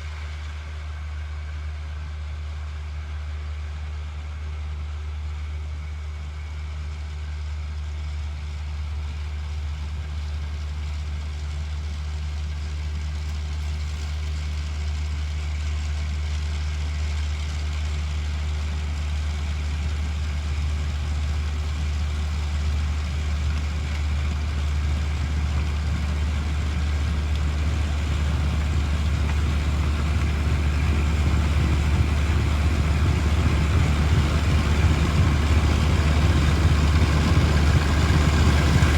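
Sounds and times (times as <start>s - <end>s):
tractor diesel engine running: 4.6s - 38.9s.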